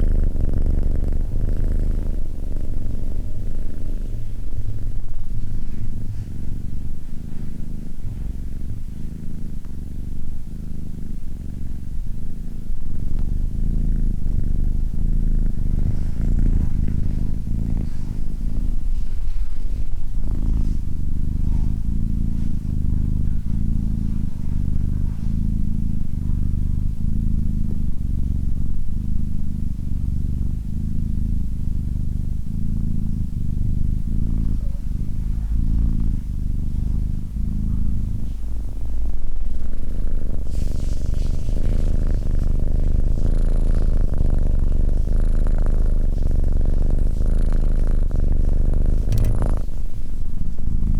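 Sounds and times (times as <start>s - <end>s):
cat purring: 0.0s - 50.9s.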